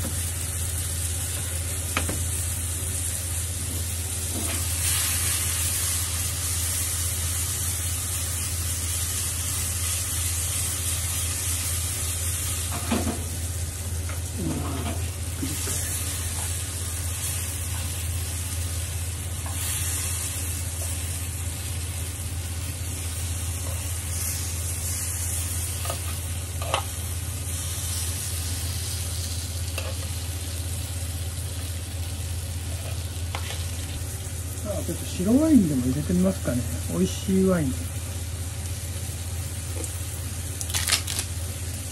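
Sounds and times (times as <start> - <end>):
slices sizzling in oil: 0.0 - 41.9.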